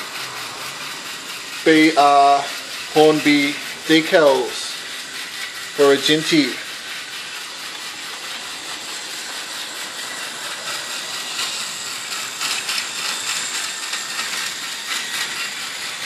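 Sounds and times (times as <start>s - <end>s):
toy train motor whirring: 0.0s - 16.0s
wheels clicking on plastic track: 0.0s - 16.0s.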